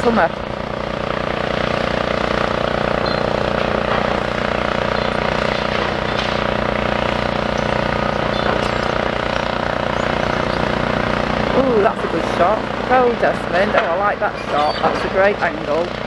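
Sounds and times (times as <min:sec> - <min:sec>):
heavy diesel engine throbbing: 0:00.0 - 0:16.0.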